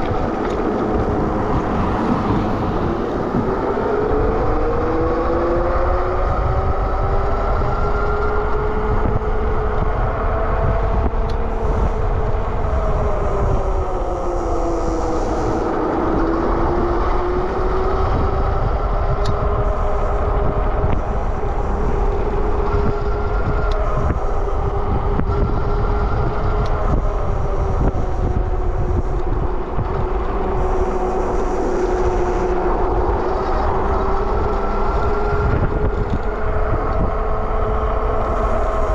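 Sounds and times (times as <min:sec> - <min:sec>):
electric bike motor whine: 0:00.0 - 0:38.9
wind rumble on microphone: 0:00.0 - 0:38.9.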